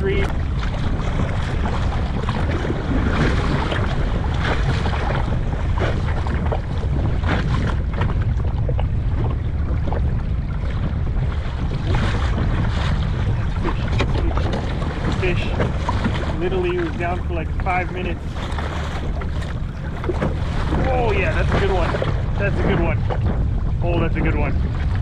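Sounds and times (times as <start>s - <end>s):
water slapping against hull: 0.0s - 25.0s
wind buffeting microphone: 0.0s - 25.0s.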